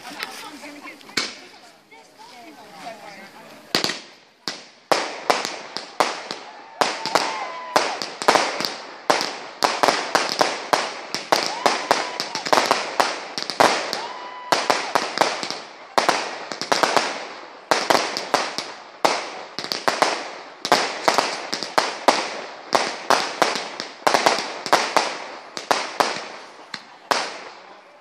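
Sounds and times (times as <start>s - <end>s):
fireworks bursting: 0.0s - 2.1s, 2.7s - 28.0s
fireworks crackle: 0.0s - 28.0s.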